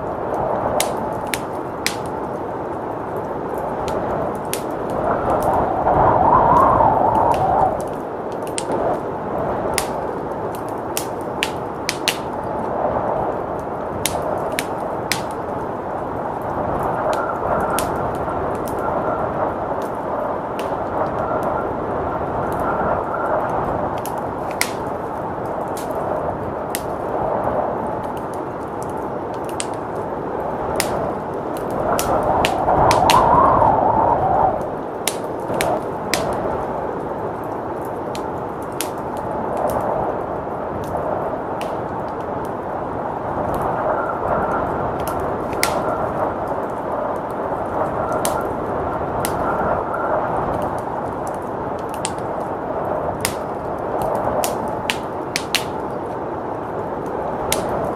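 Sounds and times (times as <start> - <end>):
blizzard wind rushing: 0.0 - 57.9
wood fire crackling: 0.0 - 57.9.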